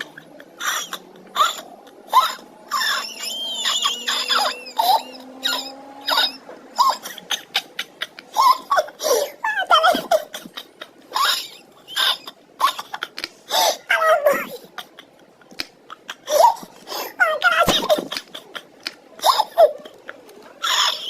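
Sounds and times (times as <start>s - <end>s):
boy laughing and giggling: 0.0s - 21.0s.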